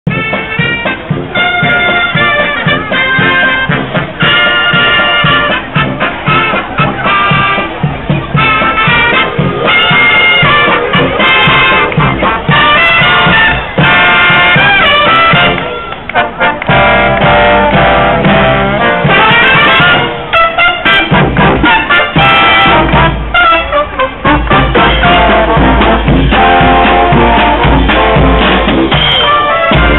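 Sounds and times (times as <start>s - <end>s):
drum: 0.0s - 29.9s
marching brass band playing: 0.0s - 29.9s.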